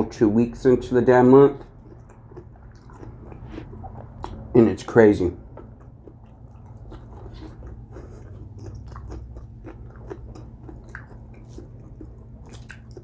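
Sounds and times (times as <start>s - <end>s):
low steady hum: 0.0s - 13.0s
chewing and crunching food: 1.1s - 13.0s.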